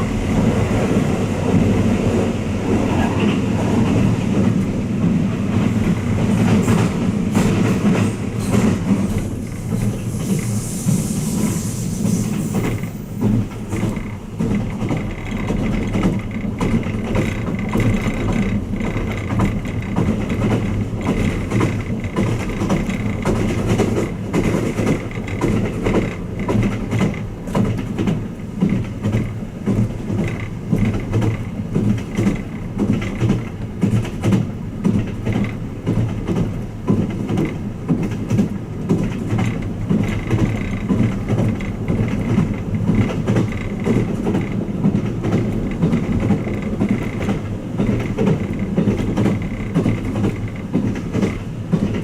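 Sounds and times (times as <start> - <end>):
wheels clicking over rail joints: 0.0 - 10.6, 12.3 - 52.0
train running rumble: 0.0 - 52.0.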